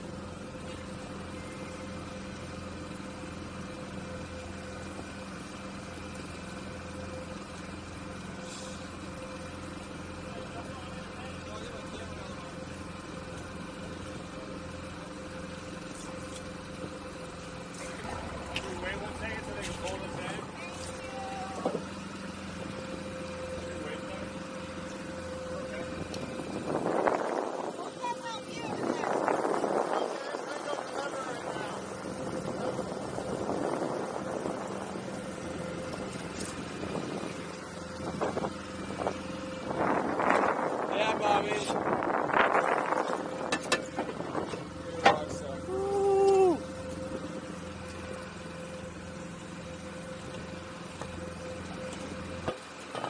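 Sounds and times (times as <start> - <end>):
outboard motor idling: 0.0 - 53.0.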